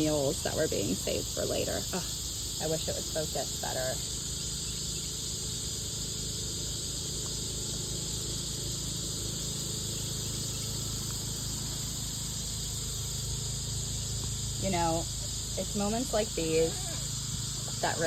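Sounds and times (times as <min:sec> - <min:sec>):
insect chorus: 0:00.0 - 0:18.0
low steady hum: 0:00.0 - 0:18.0.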